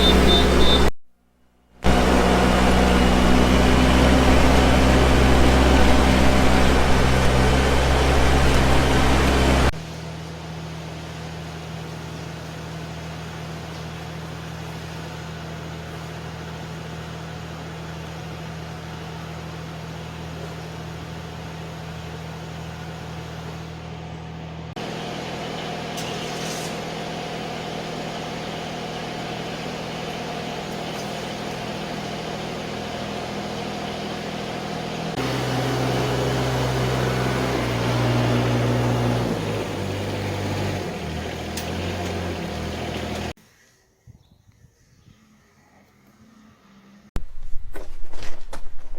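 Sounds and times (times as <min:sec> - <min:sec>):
small engine running: 0:00.0 - 0:00.9, 0:01.8 - 0:24.2, 0:24.8 - 0:43.4.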